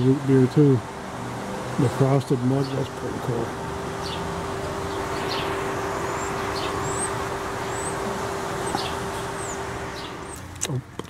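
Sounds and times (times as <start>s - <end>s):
mechanical hum: 0.0s - 11.0s
small birds chirping: 0.0s - 11.0s
traffic noise: 0.0s - 11.0s.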